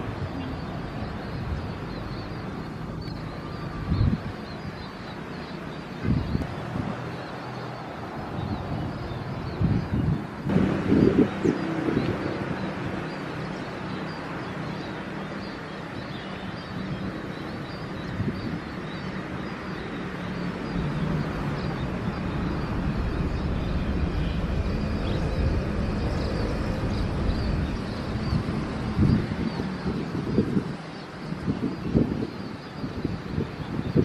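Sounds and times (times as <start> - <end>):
distant jet airliner rumble: 0.0 - 34.0.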